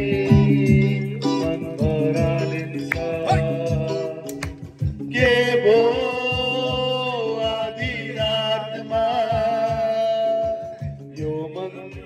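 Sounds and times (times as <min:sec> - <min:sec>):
bass: 0:00.0 - 0:12.0
person singing long notes: 0:00.0 - 0:12.0
steady drum beat: 0:00.0 - 0:12.0.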